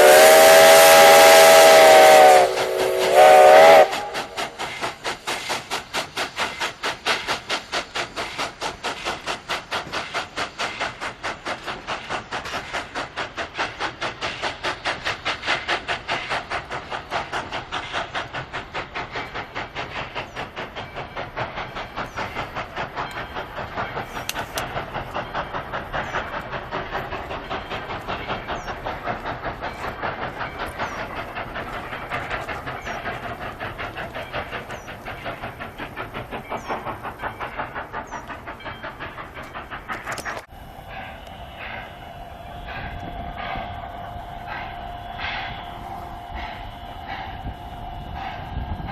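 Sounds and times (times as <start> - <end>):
steam locomotive chuffing: 0.0 - 48.9.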